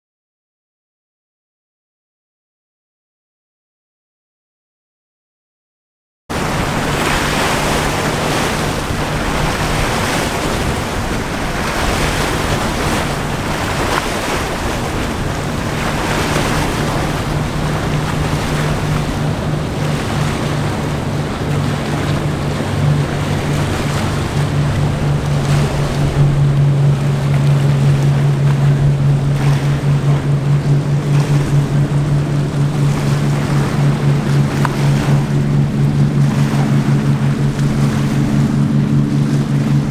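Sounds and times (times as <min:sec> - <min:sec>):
boat engines droning: 0:06.3 - 0:39.9
choppy water: 0:06.3 - 0:39.9
wind on microphone: 0:06.3 - 0:39.9.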